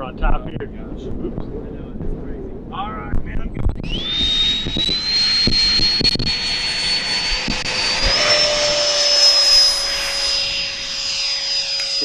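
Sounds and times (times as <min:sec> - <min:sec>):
wind buffeting microphone: 0:00.0 - 0:11.7
ducted fans high-pitched whine: 0:00.0 - 0:12.0.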